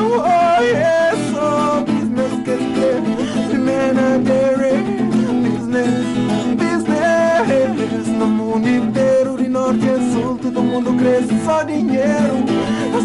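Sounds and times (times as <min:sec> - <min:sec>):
song with guitar: 0:00.0 - 0:13.0.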